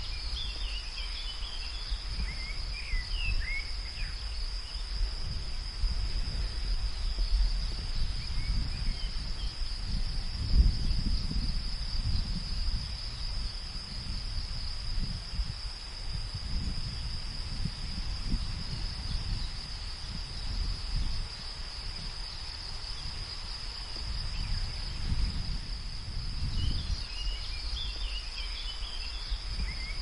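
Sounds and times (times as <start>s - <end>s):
crickets chirping: 0.0s - 30.0s
low gusting wind rumble: 0.0s - 30.0s.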